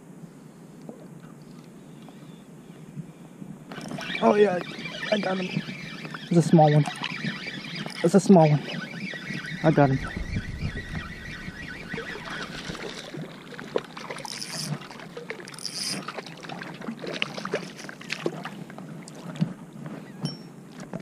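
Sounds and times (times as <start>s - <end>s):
water splashing and lapping: 3.7s - 21.0s.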